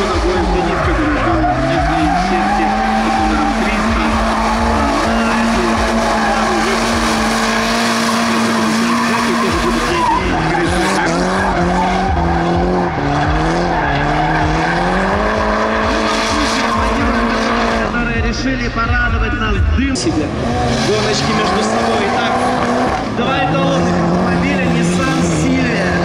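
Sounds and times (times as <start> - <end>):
tyres screeching: 0.0 - 17.8, 20.3 - 26.0
car engine at high revs: 0.0 - 18.3, 19.9 - 26.0.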